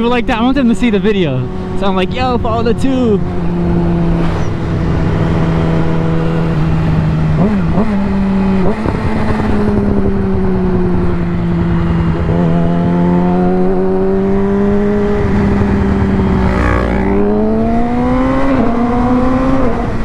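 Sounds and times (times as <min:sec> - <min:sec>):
motorcycle engine accelerating: 0:00.0 - 0:20.0
wind rushing on microphone: 0:00.0 - 0:20.0.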